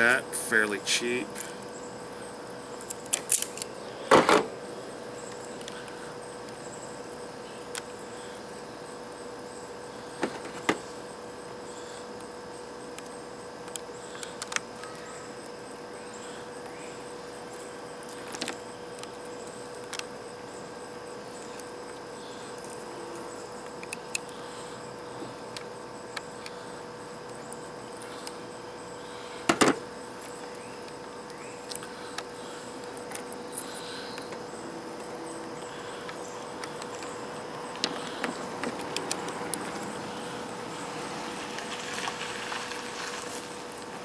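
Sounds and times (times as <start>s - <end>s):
faint hum: 0.0s - 44.0s.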